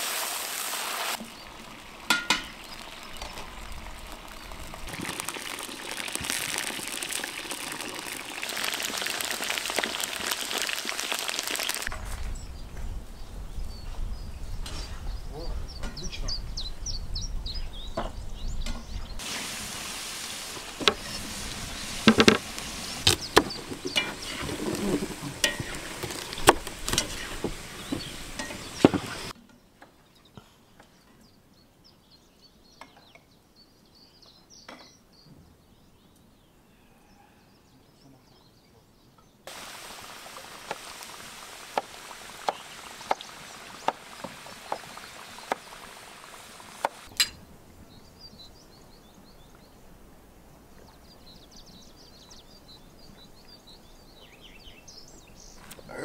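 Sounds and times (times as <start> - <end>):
birds chirping: 1.2 - 56.0.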